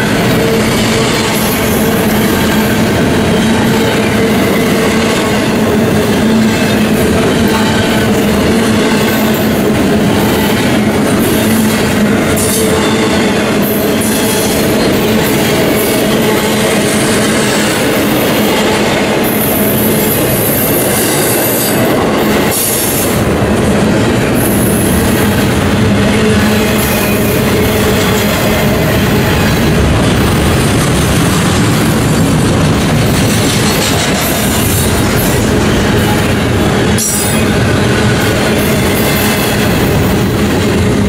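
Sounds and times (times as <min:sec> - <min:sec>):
freight train wheels rumbling on rails: 0:00.0 - 0:41.0.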